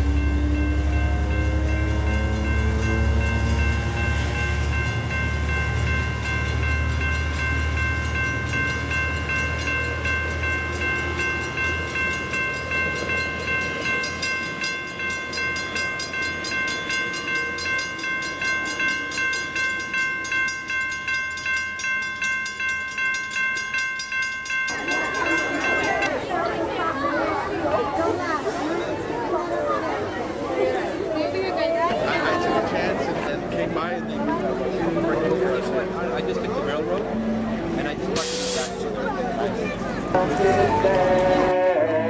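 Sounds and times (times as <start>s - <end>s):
railroad crossing bell ringing: 0.0s - 29.4s, 31.2s - 42.0s
train rumbling past: 0.0s - 42.0s.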